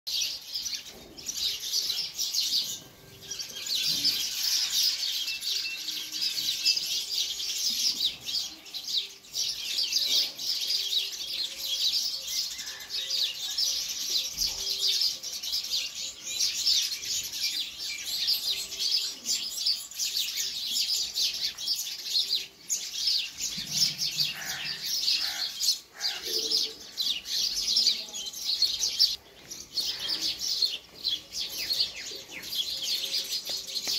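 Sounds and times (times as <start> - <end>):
sparrows chirping: 0.1 - 33.9.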